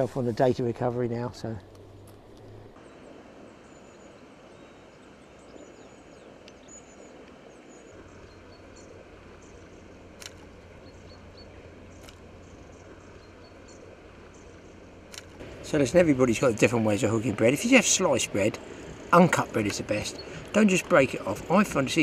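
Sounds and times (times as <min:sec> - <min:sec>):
low rumble of wind: 0:00.0 - 0:22.0
small birds chirping: 0:00.0 - 0:22.0.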